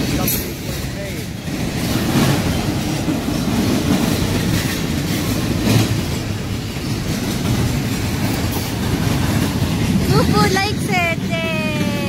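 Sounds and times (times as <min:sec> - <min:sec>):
wheel clacks: 0:00.0 - 0:11.3
train wheels rumbling on rail: 0:00.0 - 0:12.0.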